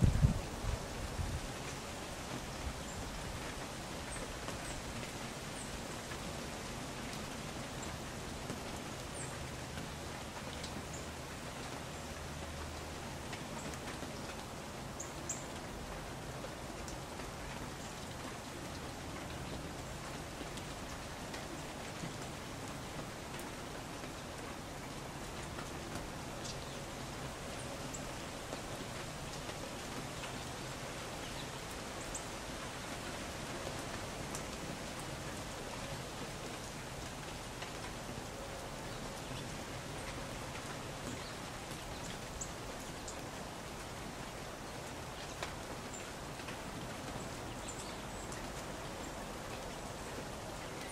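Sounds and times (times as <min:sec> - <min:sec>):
steady outdoor hiss: 0:00.0 - 0:50.9.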